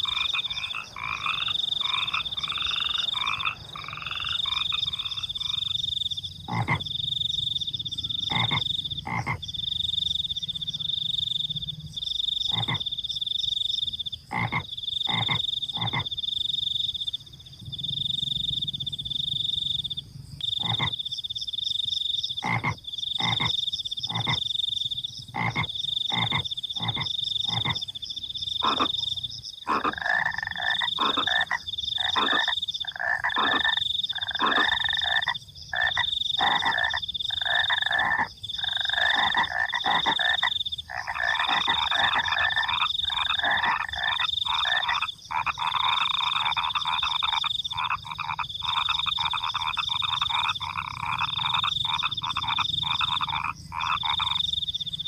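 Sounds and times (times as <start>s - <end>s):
cricket trilling: 0.0s - 55.0s
frogs croaking: 0.0s - 55.0s.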